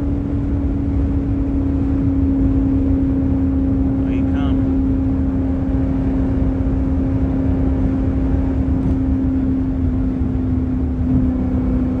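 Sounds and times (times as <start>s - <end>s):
car engine droning: 0.0s - 12.0s
low road rumble: 0.0s - 12.0s.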